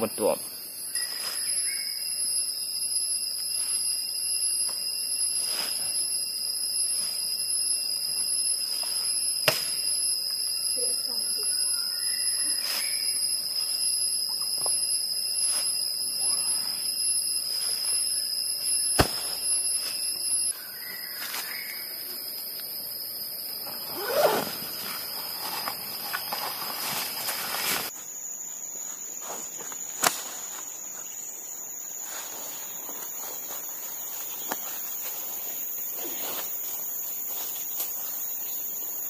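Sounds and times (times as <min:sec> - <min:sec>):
forest insects droning: 0:00.0 - 0:39.0.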